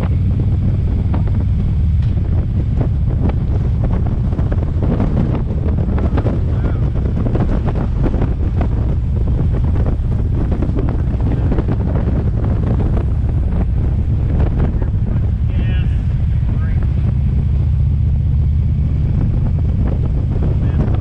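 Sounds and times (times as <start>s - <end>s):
car road noise: 0.0s - 21.0s
wind buffeting microphone: 0.0s - 21.0s.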